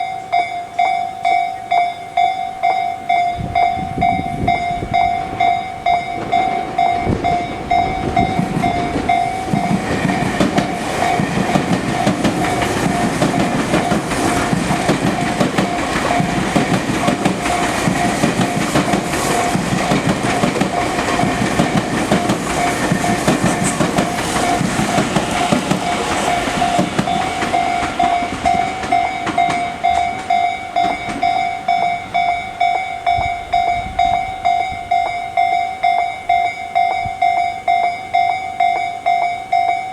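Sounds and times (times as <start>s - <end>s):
electric train passing: 0.0s - 39.9s
level crossing bell ringing: 0.0s - 39.9s
train wheel and rail noise: 0.0s - 39.9s.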